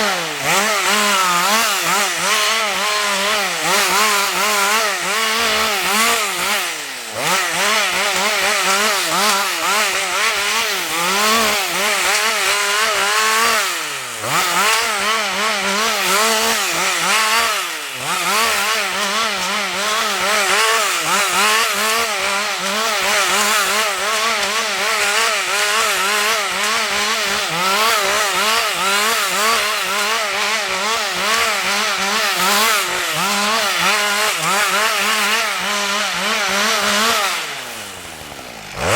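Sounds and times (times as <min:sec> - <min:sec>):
chainsaw running at high revs: 0:00.0 - 0:38.9.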